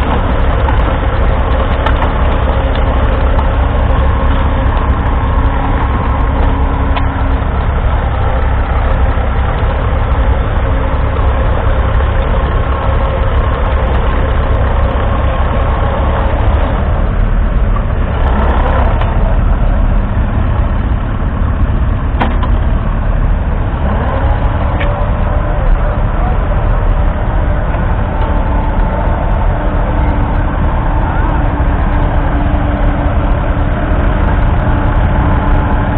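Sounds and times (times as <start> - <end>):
tractor engine running under load: 0.0 - 35.9.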